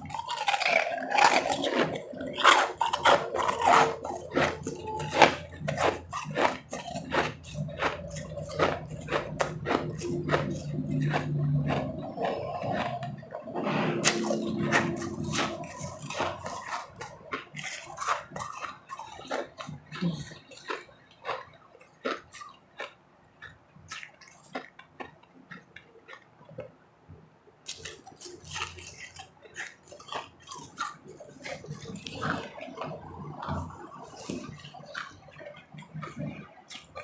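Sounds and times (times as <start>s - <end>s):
chewing ice crunches: 0.0s - 26.7s, 27.7s - 37.0s.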